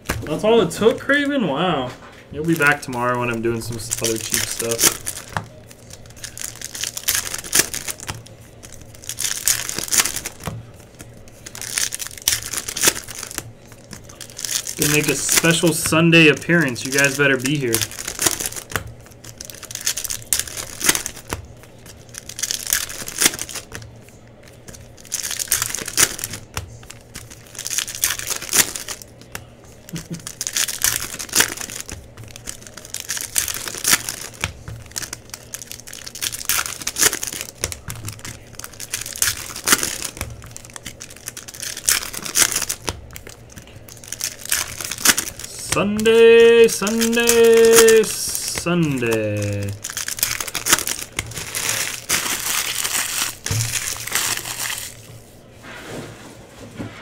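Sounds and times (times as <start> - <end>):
card pack wrappers crinkling: 0.0 - 55.4.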